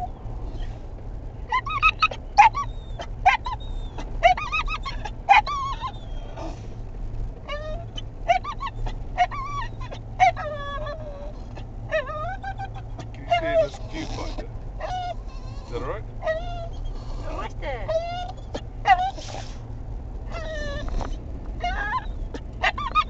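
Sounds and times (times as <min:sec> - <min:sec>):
steady low rumble: 0:00.0 - 0:23.0
dog whining yelps: 0:01.5 - 0:06.6, 0:07.4 - 0:19.6, 0:20.3 - 0:23.0.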